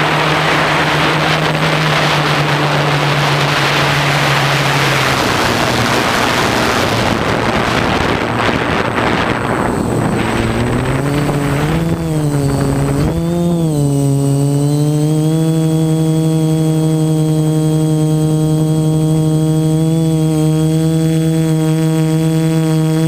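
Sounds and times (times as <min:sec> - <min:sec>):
drone propellers buzzing hum: 0:00.0 - 0:23.0.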